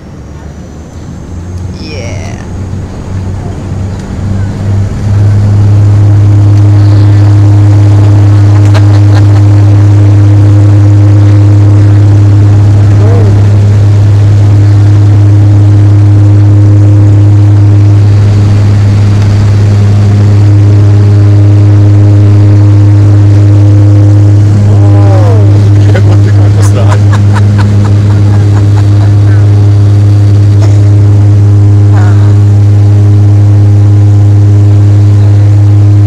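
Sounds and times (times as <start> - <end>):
propeller engines droning in cabin: 0.0 - 36.0.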